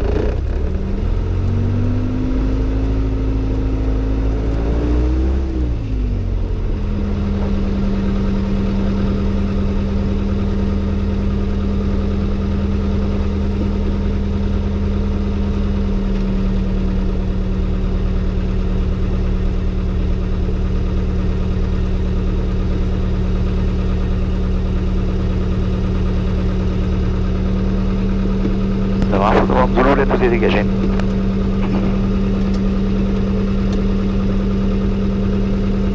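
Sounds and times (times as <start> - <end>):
aircraft piston engine and propeller: 0.0 - 35.9.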